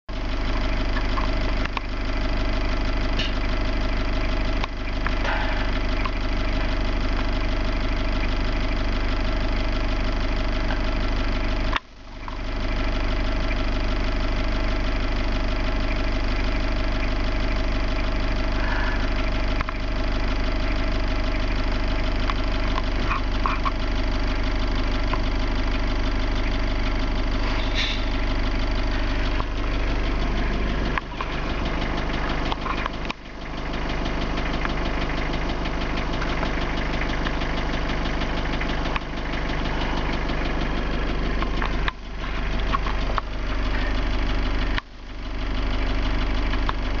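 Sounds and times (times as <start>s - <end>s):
vehicle engine idling: 0.1s - 47.0s.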